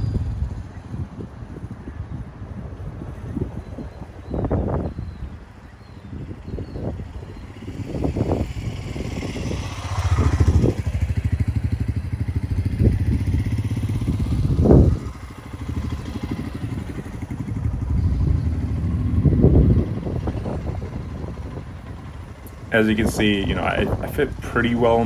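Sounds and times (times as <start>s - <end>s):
motorcycle riding past: 0.0s - 25.0s.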